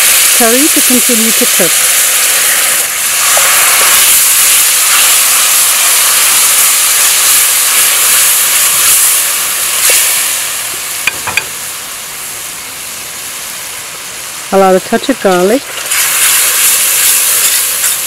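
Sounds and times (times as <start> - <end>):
water sizzling in hot oil: 0.0 - 18.0.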